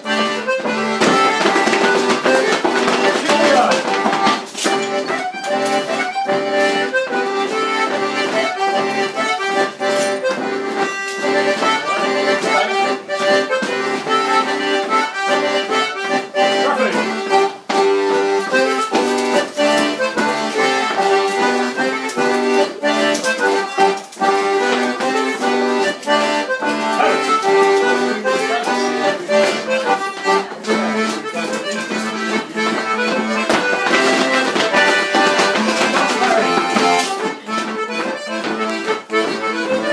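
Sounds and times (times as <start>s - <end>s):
accordion dance tune: 0.0s - 39.9s
dancers' feet and swords clicking: 0.7s - 14.6s, 17.5s - 39.9s.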